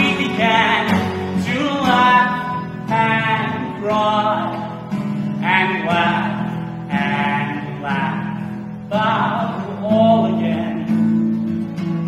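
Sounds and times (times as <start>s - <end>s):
man singing: 0.0s - 11.4s
strummed acoustic guitar: 0.0s - 12.0s.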